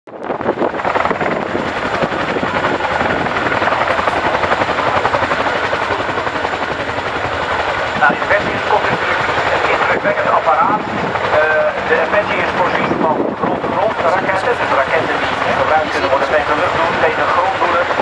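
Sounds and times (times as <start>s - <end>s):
helicopter rotors beating: 0.1s - 18.0s.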